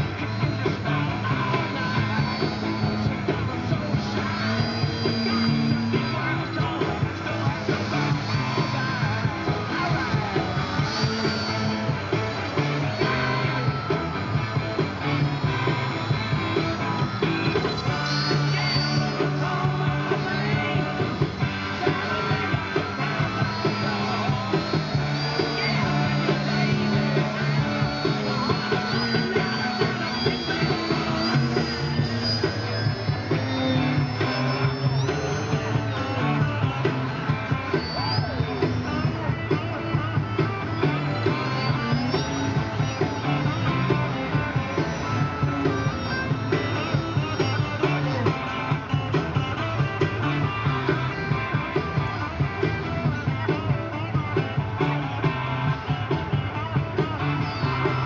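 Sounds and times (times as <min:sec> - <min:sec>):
rock music with singing: 0:00.0 - 0:58.0.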